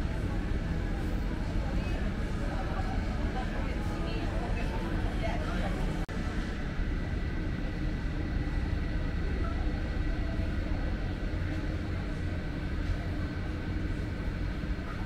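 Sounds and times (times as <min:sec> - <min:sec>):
faint steady hums: 0:00.0 - 0:15.0.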